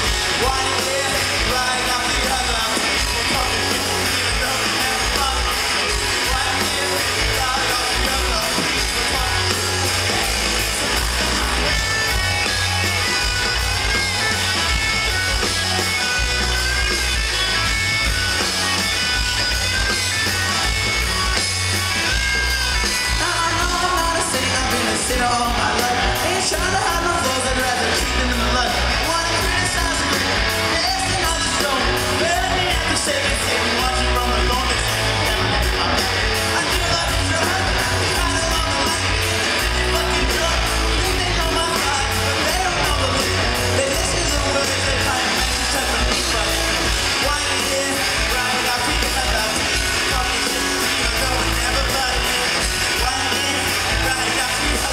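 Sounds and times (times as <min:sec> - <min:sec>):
bass guitar: 0:00.0 - 0:54.9
drums: 0:00.0 - 0:54.9
electric guitars: 0:00.0 - 0:54.9.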